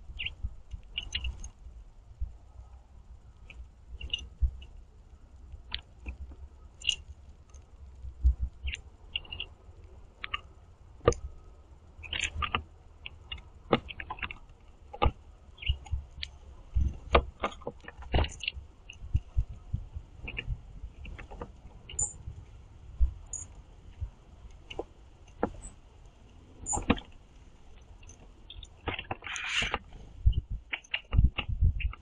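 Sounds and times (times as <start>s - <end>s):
bird pecking seeds on wood: 3.4s - 4.8s, 5.4s - 11.3s, 12.0s - 19.6s, 20.2s - 22.5s, 23.2s - 32.0s.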